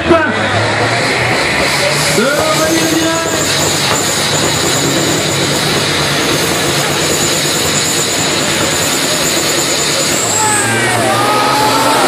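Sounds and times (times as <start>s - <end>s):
diesel truck engines roaring: 0.0s - 12.0s.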